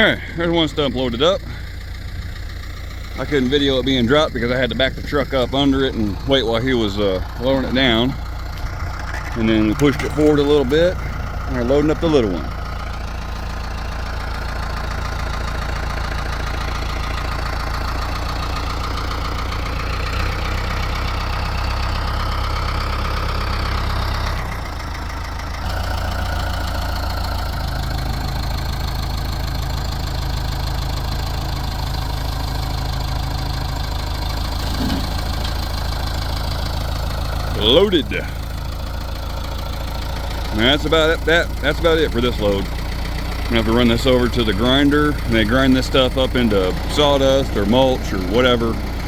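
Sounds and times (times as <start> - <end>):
heavy equipment engines running: 0.0 - 49.0.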